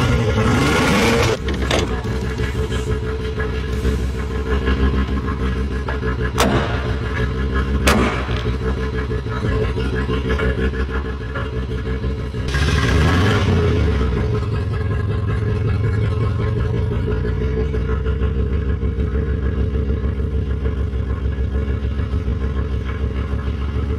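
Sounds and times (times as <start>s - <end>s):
car engine pulsing rumble: 0.0s - 23.9s.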